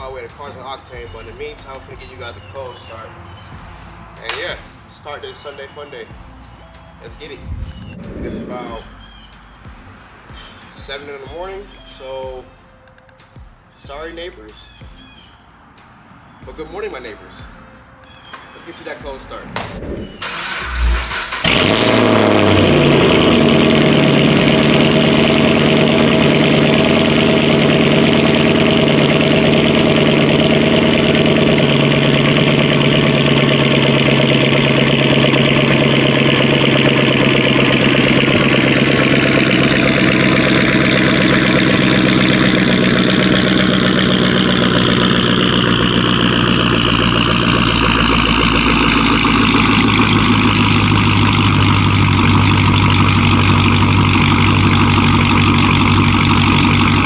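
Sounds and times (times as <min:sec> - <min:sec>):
car engine starting and idling: 0:00.0 - 0:10.6, 0:18.1 - 0:57.0.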